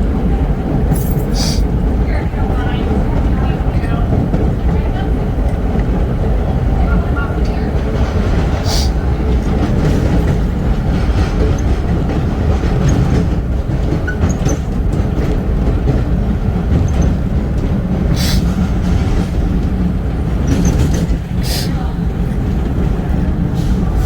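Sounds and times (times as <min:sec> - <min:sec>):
subway train rumbling: 0:00.0 - 0:24.0
wheels clicking over rail joints: 0:00.3 - 0:24.0.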